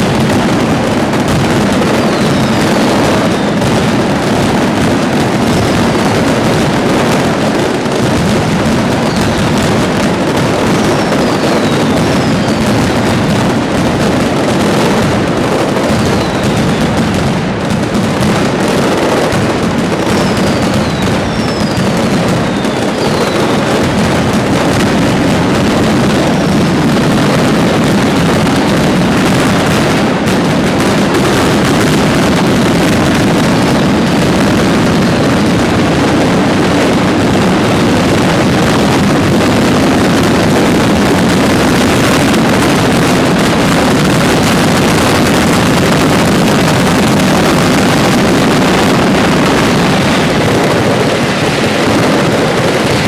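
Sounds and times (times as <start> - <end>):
firecracker explosions barrage: 0.0 - 53.0
whistling fireworks: 0.0 - 53.0.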